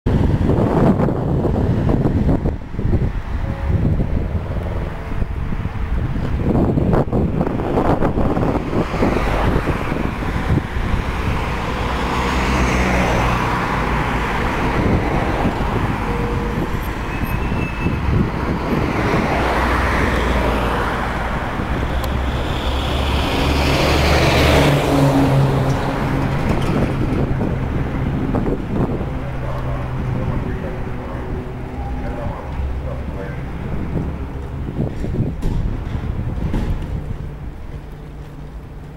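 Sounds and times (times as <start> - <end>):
cars passing close by: 0.1 - 38.9.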